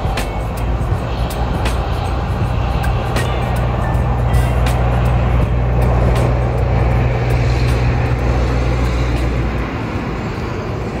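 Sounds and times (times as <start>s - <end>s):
engine running: 0.0s - 11.0s
rushing noise: 0.0s - 11.0s.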